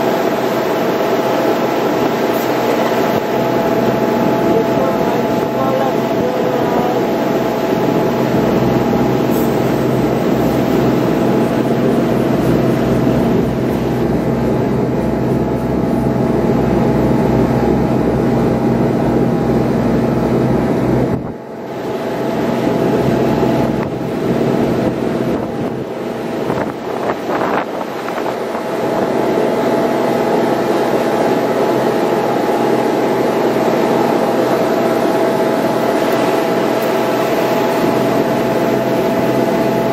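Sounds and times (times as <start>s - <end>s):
boat engine droning: 0.0s - 39.9s
wind buffeting microphone: 0.0s - 39.9s.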